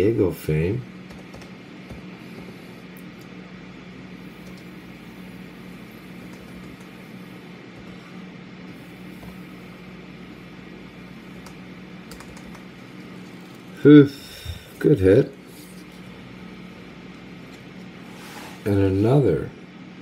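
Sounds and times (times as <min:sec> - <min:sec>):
room noise hiss: 0:00.0 - 0:20.0
steady low hum: 0:00.0 - 0:20.0.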